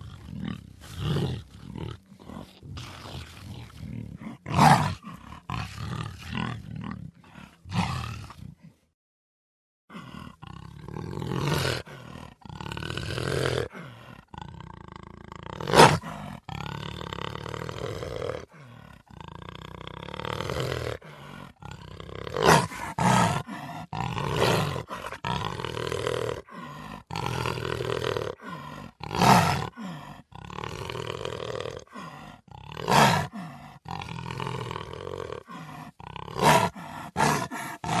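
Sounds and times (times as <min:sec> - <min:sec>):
jaguar roaring and growling: 0:00.0 - 0:08.6, 0:09.9 - 0:38.0.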